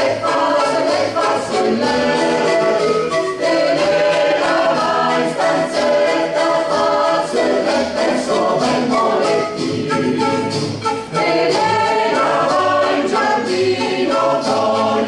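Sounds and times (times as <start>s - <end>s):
mixed choir singing a cappella: 0.0s - 15.0s.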